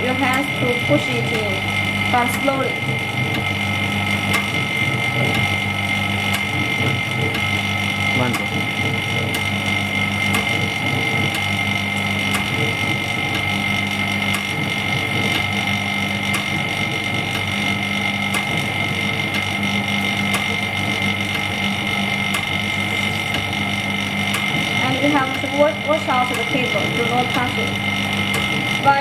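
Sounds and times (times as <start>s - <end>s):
vacuum pump humming: 0.0s - 29.0s.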